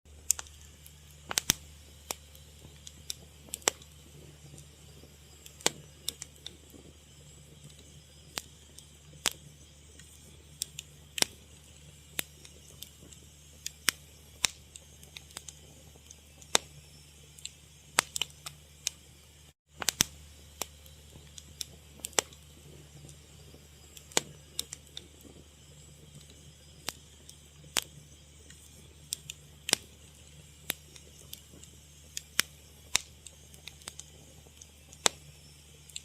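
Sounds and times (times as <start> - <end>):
wood fire crackling: 0.1 - 36.0.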